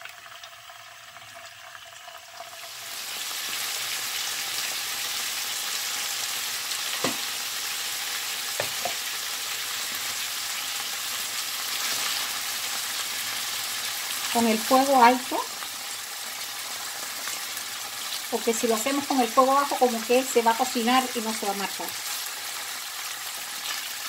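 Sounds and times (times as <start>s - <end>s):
beef sizzling in hot oil: 0.0s - 24.0s.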